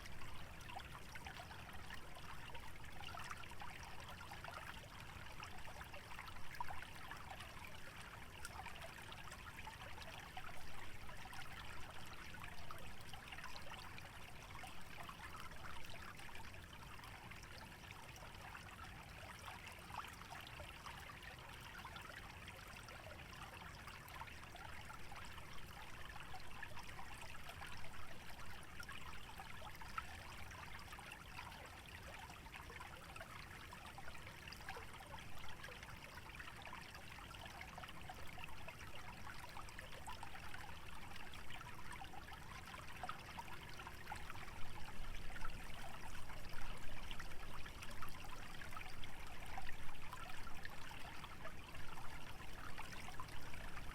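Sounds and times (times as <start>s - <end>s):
stream trickling and babbling: 0.0s - 53.9s.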